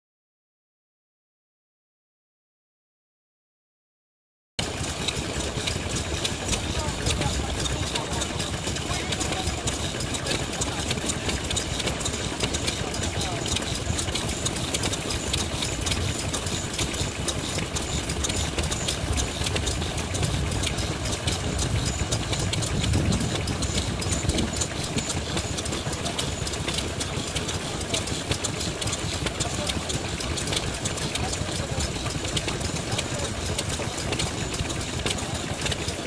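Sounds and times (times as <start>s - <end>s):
stationary engines clattering: 4.6s - 36.0s.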